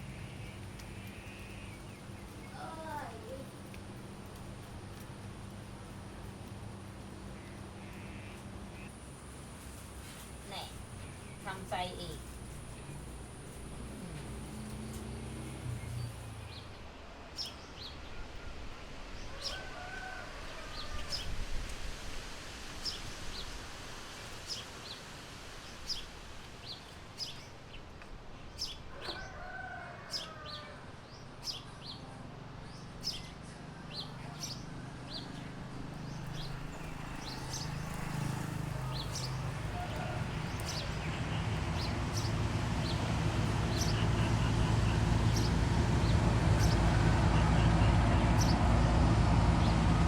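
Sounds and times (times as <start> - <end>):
small birds chirping: 0.0 - 9.0, 9.6 - 18.4, 24.4 - 29.3, 30.1 - 50.0.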